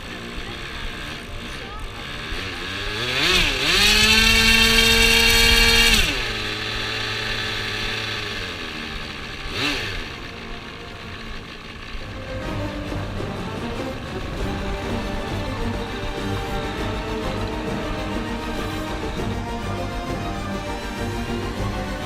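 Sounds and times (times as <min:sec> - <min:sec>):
model airplane engine revving: 0:00.0 - 0:22.0.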